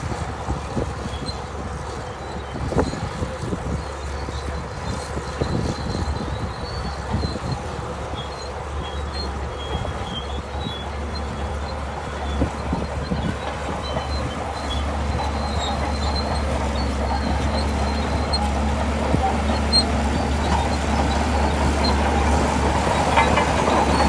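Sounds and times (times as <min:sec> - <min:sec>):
bulldozer diesel rumble: 0:00.0 - 0:24.0
steel tracks squealing: 0:00.0 - 0:24.0.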